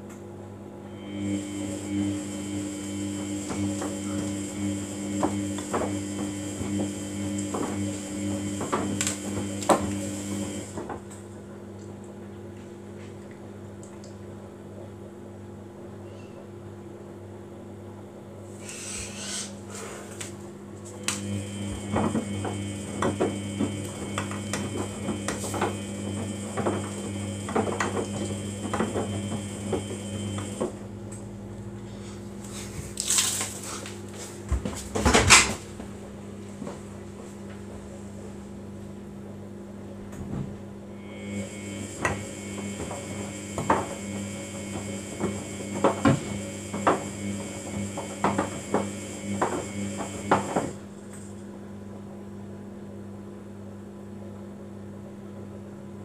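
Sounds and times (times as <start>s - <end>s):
washing machine drum motor hum: 0.0s - 15.6s, 17.2s - 53.7s.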